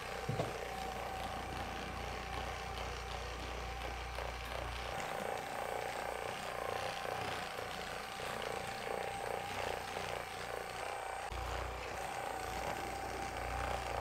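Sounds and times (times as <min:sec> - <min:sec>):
massage gun buzzing and hammering: 0:00.0 - 0:14.0.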